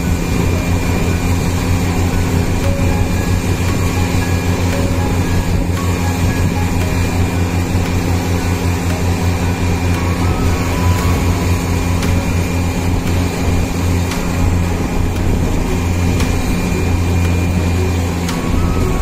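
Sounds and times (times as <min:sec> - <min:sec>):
drilling rig machine drone: 0:00.0 - 0:19.0.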